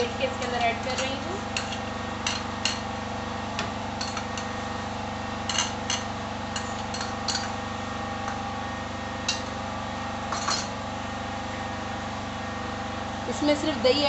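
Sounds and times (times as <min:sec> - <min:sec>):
generator humming: 0:00.0 - 0:14.0.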